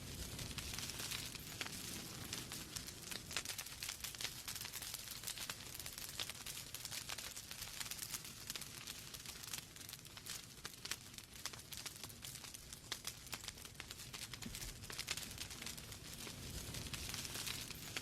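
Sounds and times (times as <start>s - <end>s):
flames hissing and rumbling: 0.0s - 18.0s
logs crackling and popping: 0.0s - 18.0s.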